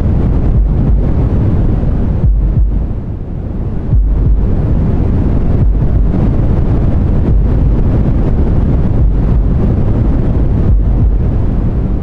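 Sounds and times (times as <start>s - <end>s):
deep white noise: 0.0s - 12.0s.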